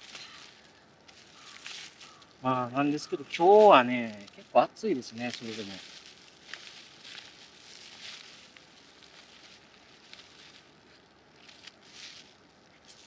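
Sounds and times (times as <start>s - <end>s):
faint rustling: 0.0s - 13.0s
light crackles: 0.0s - 13.0s.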